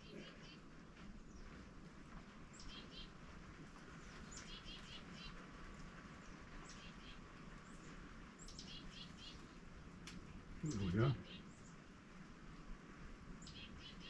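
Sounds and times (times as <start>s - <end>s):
faint bird song: 0.0s - 12.0s, 12.6s - 14.0s.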